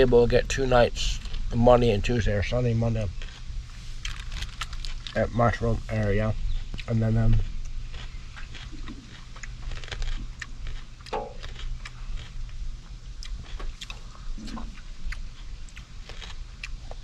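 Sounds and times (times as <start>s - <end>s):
snack chewing crunches: 0.9s - 17.0s.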